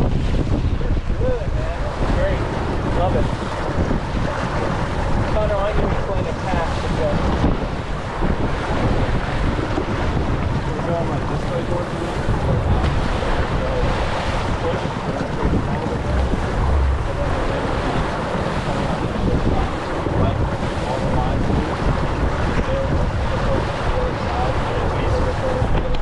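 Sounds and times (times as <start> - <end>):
water splashing along hull: 0.0 - 26.0
wind buffeting microphone: 0.0 - 26.0.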